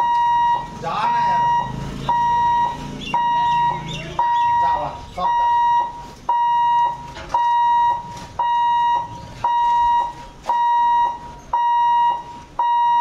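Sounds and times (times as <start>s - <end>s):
pulsing warning hooter: 0.0s - 13.0s.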